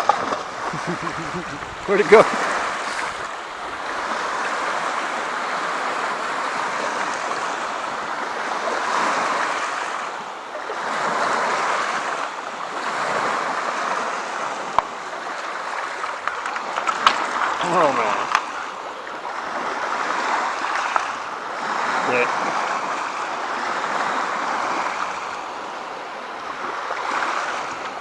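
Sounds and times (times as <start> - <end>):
waves washing onto shore: 0.0 - 28.0.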